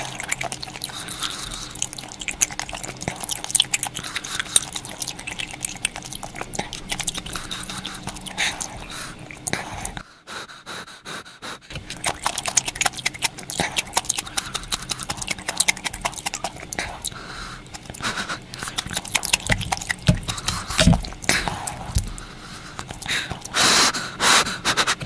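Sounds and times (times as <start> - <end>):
chewing and wet mouth noises: 0.0 - 10.0, 11.4 - 25.0.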